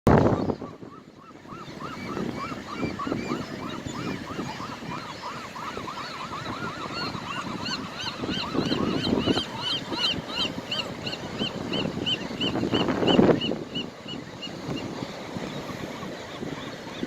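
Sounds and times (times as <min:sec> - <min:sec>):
surf: 0:00.1 - 0:17.0
wind noise: 0:00.1 - 0:17.0.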